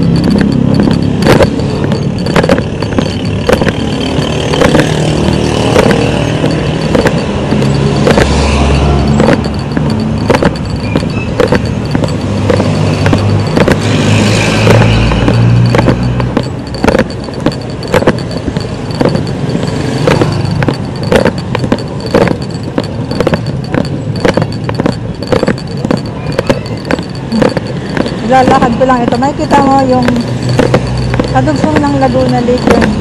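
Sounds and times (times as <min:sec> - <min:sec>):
footstep knocks: 0:00.0 - 0:33.0
road traffic passing: 0:00.0 - 0:33.0.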